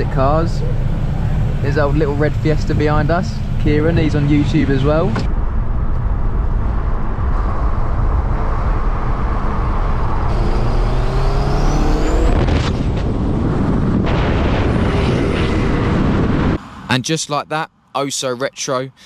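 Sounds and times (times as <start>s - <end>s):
car engine accelerating: 0.0s - 16.6s
road noise inside car: 0.0s - 16.9s.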